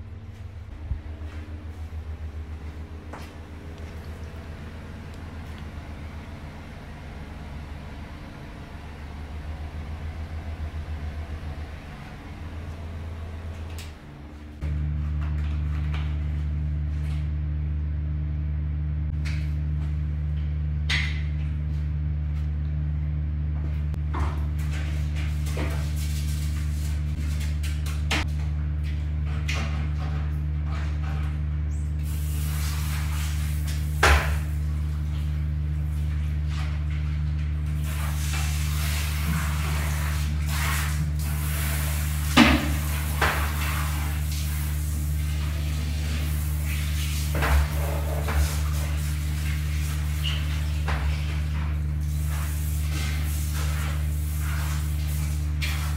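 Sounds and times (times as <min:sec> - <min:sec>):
low motor-like hum: 0:00.0 - 0:55.9.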